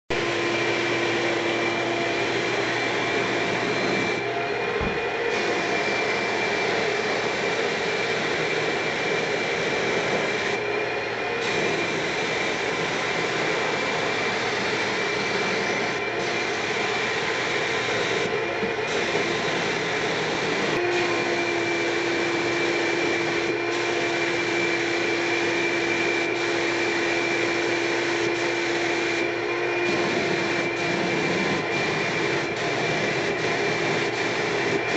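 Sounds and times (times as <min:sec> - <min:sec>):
compressor hum whining steadily: 0:00.1 - 0:34.9
spray gun hissing: 0:00.1 - 0:34.9.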